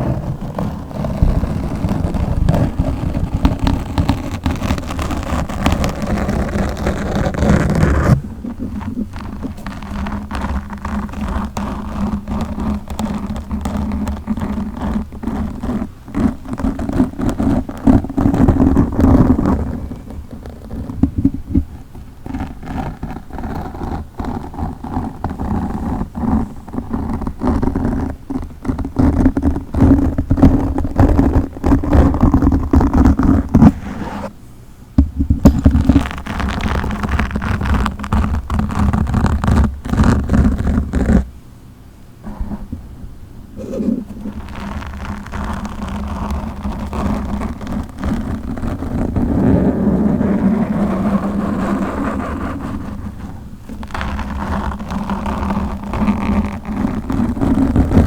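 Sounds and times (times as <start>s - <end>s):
fingers scratching on microphone: 0.0s - 34.3s, 35.0s - 41.3s, 42.2s - 42.8s, 43.6s - 58.0s.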